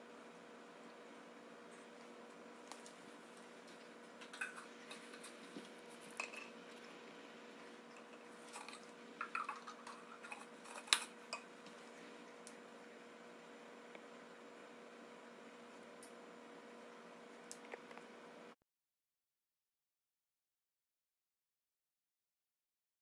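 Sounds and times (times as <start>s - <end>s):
low electrical hum: 0.0s - 18.6s.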